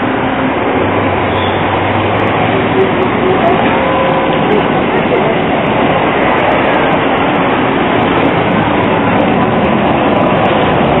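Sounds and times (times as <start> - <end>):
tram wheels on rails: 0.0 - 11.0.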